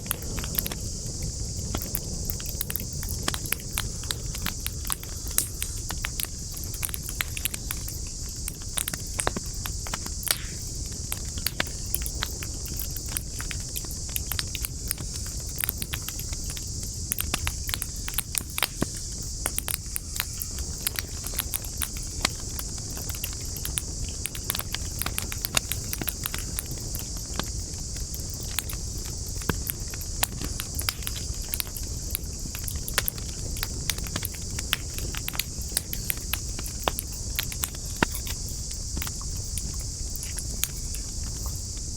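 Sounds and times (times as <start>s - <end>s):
campfire crackling: 0.0s - 41.9s
high-pitched hiss: 0.0s - 41.9s.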